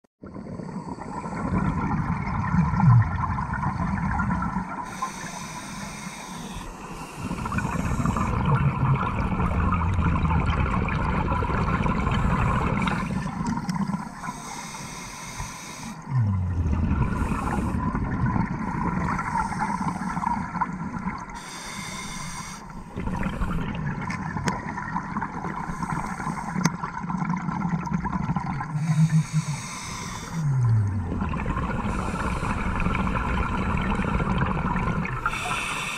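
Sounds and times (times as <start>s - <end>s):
exhaled bubbles underwater: 0.2s - 14.6s, 16.0s - 21.5s, 22.7s - 35.9s
underwater hum: 0.2s - 35.9s.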